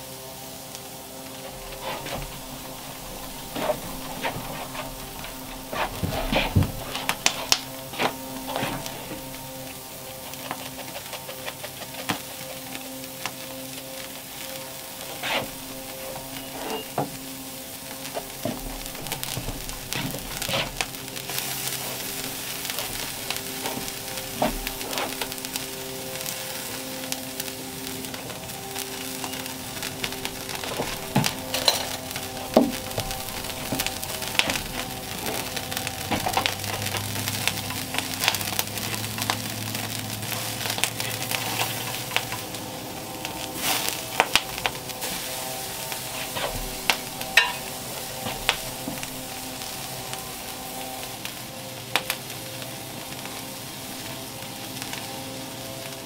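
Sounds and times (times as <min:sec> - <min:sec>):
patties sizzling on a grill: 0:00.0 - 0:56.0
soft background music: 0:00.0 - 0:56.0.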